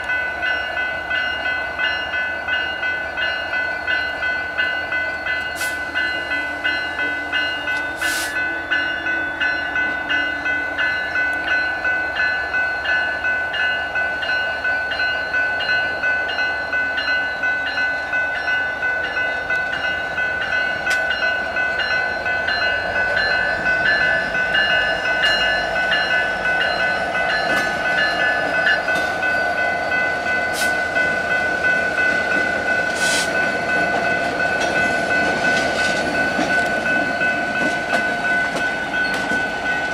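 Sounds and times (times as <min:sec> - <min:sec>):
crossing bell ringing: 0:00.0 - 0:39.9
diesel locomotives rumbling: 0:00.0 - 0:39.9.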